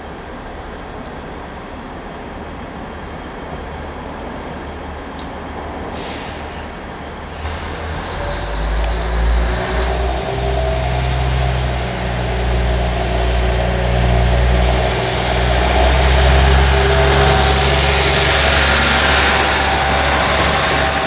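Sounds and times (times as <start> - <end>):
diesel railcar engine droning: 0.0 - 21.0.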